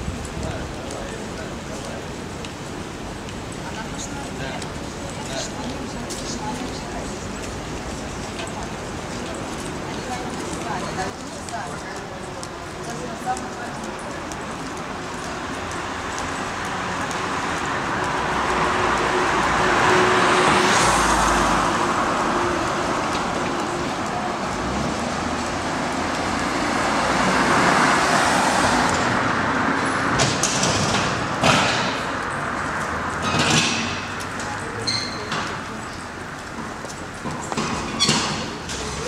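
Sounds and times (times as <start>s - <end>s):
street traffic passing: 0.0s - 39.0s.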